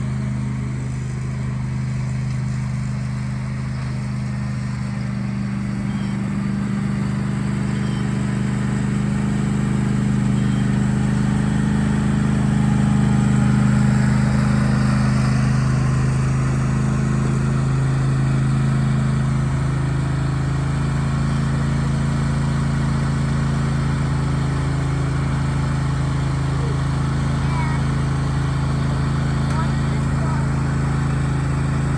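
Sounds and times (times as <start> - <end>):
lawn mower engine running: 0.0 - 31.9.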